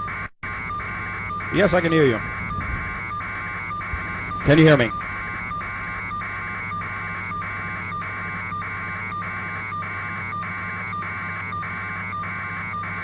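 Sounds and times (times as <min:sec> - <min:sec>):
electronic warbling telephone tones: 0:00.0 - 0:13.0
low line hum: 0:00.0 - 0:13.0.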